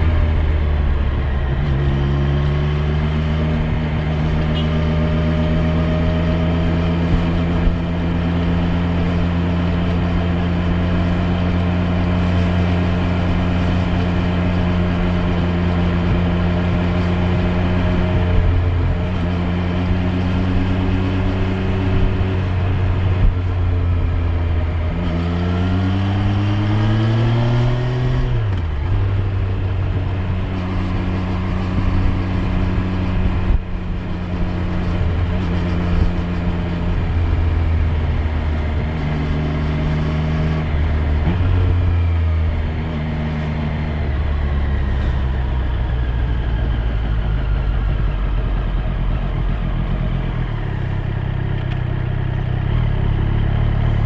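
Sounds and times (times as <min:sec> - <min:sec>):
motorcycle engine cruising and revving: 0:00.0 - 0:54.0.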